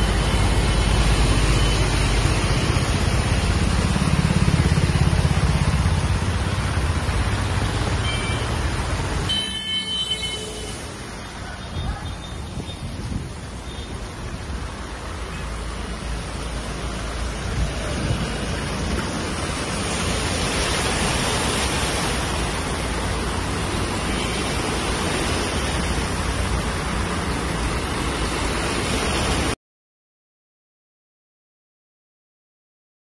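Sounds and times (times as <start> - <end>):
cars driving through water: 0.0 - 29.6
heavy rain: 0.0 - 29.6.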